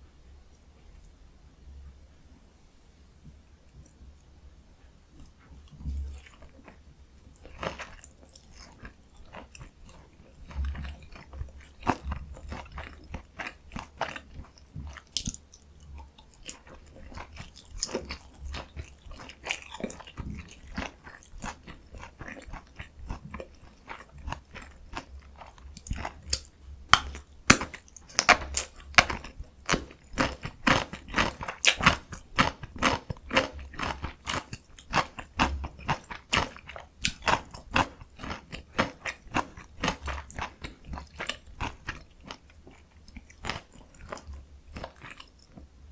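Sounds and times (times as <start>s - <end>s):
chewing and biting dumplings: 5.2s - 45.9s.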